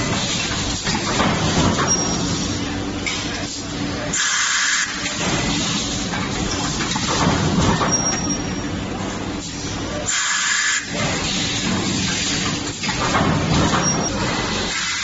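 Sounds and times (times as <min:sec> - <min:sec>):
forging press machine hum: 0:00.0 - 0:15.0.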